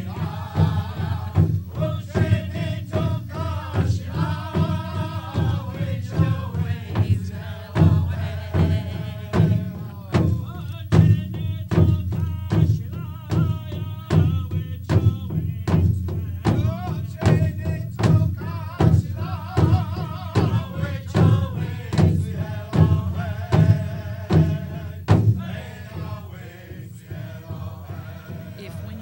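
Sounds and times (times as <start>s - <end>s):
steady drum beat: 0.0s - 29.0s.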